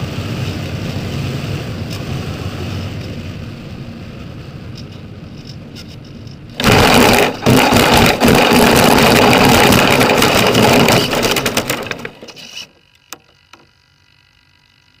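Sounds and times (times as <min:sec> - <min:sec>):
model plane rolling over rough ground: 0:00.0 - 0:15.0.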